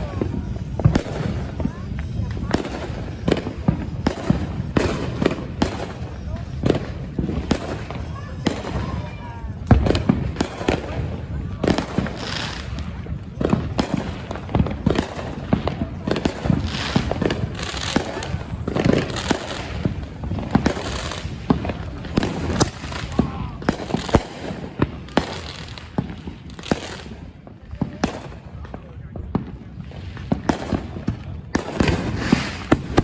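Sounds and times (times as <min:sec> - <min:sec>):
fireworks bangs and pops: 0:00.0 - 0:33.0
fireworks crackling hiss: 0:00.0 - 0:33.0.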